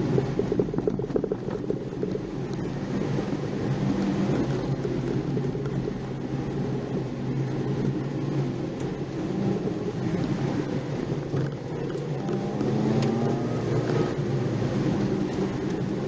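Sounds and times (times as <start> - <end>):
car engine pulling: 0.0 - 16.0
tyre and road noise: 0.0 - 16.0.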